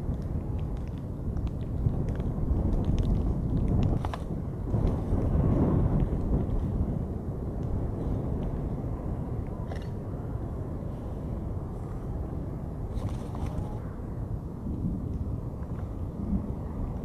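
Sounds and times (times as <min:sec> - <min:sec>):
tornado roaring: 0:00.0 - 0:17.0
wind noise on microphone: 0:00.0 - 0:17.0.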